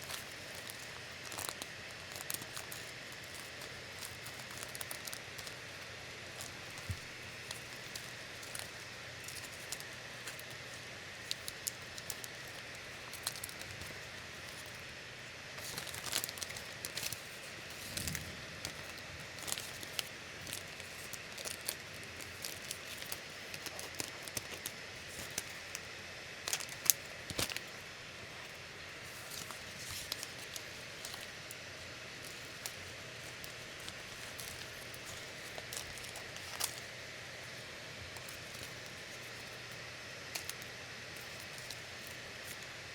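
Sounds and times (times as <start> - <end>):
packaging rustling: 0.0 - 42.9
steady low hiss: 0.0 - 42.9.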